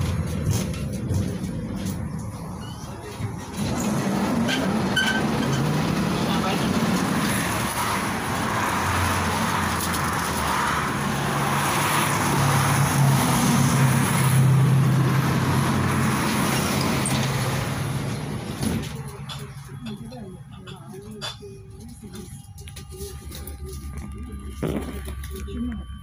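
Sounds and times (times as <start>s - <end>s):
tram machinery humming: 0.0s - 26.0s.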